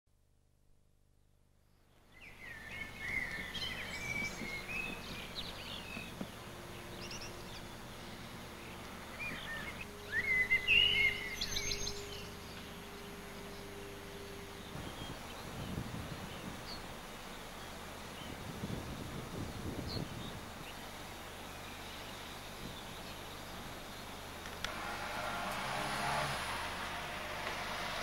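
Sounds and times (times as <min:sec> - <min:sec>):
outdoor background noise: 0:00.1 - 0:28.0
songbirds singing: 0:01.7 - 0:28.0.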